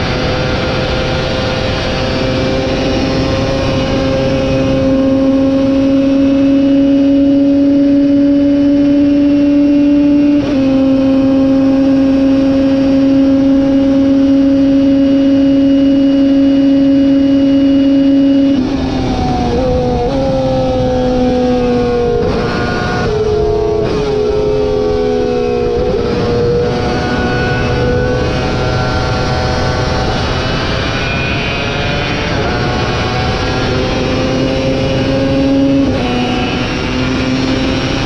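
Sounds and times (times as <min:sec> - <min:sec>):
motorcycle engine at full throttle: 0:00.0 - 0:38.0.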